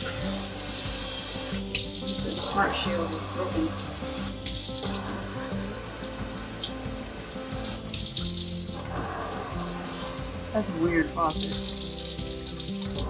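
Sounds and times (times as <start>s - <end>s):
background music: 0.0s - 13.0s
water running into steel sink: 0.0s - 13.0s.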